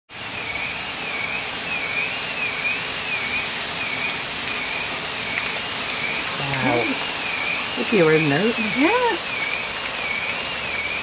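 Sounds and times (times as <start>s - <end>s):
hail hitting the road: 0.1s - 11.0s.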